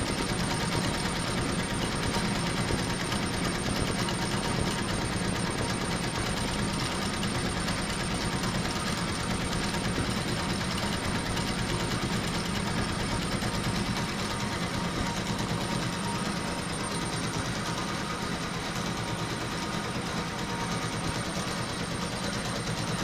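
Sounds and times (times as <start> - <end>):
embroidery machine stitching: 0.0 - 23.0.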